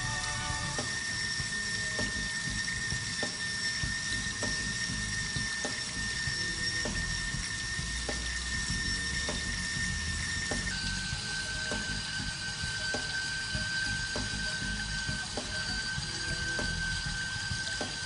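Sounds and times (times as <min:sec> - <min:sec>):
bandsaw high whine: 0:00.0 - 0:18.0
coolant trickling: 0:00.0 - 0:18.0.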